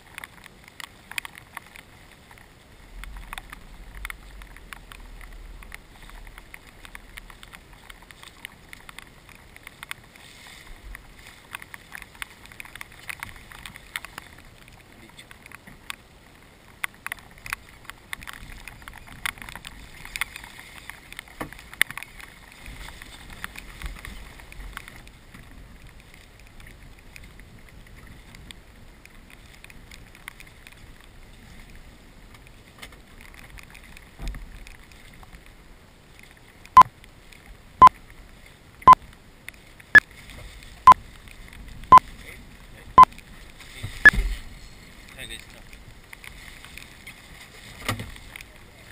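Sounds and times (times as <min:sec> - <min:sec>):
faint steady hiss: 0:00.0 - 0:48.9
raindrops tapping on boat: 0:00.0 - 0:48.9.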